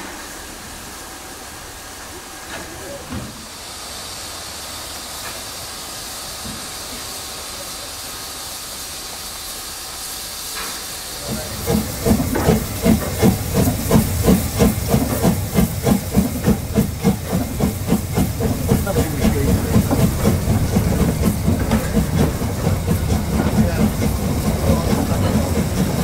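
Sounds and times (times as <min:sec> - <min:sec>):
steam hissing: 0:00.0 - 0:26.0
rhythmic steam beat: 0:03.5 - 0:26.0.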